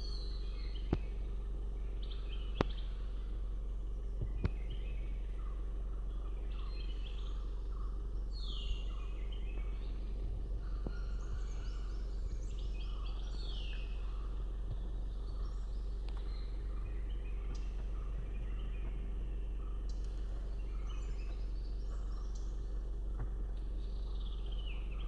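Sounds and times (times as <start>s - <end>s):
bird song phrase: 0.0s - 25.0s
steady low hum: 0.0s - 25.0s.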